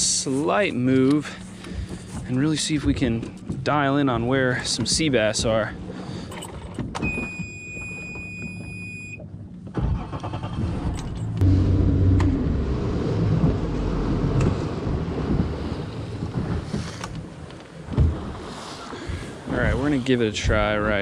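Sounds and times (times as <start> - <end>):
water rushing along hull: 0.0 - 9.0, 11.4 - 21.0
outboard motor rumbling: 0.0 - 21.0.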